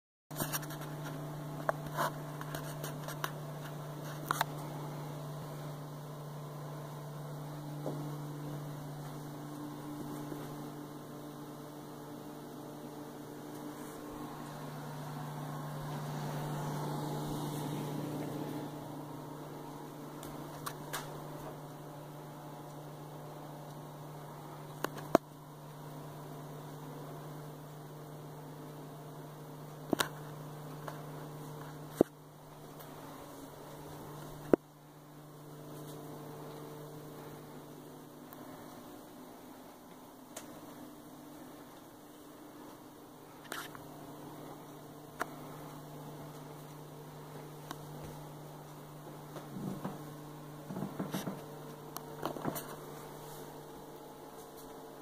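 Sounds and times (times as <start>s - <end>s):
appliance fan humming: 0.3s - 55.0s.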